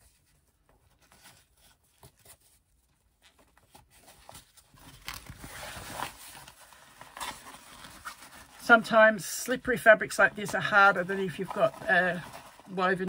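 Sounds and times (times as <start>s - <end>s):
slippery fabric rustling: 0.0s - 13.0s.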